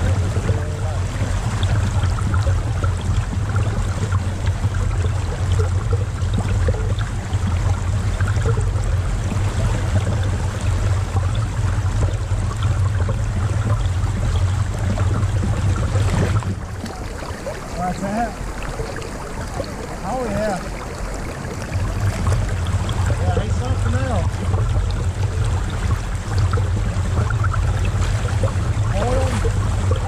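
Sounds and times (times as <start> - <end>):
creek water trickling: 0.0 - 30.0
steady low rumble: 0.0 - 30.0.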